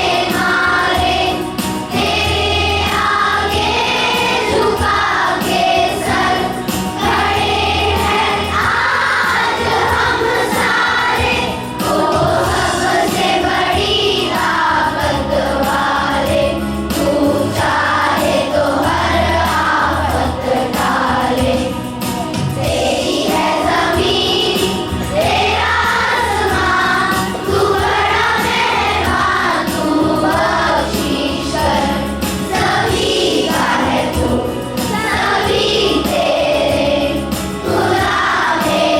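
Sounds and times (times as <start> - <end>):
choir singing: 0.0 - 38.9
musical accompaniment: 0.0 - 38.9.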